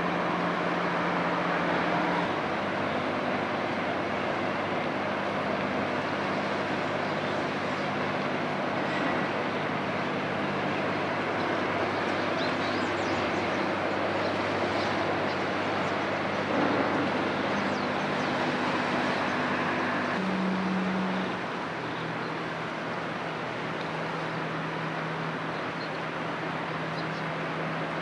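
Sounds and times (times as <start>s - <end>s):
broad rushing noise: 0.0s - 28.0s
low mechanical engine drone: 0.0s - 28.0s.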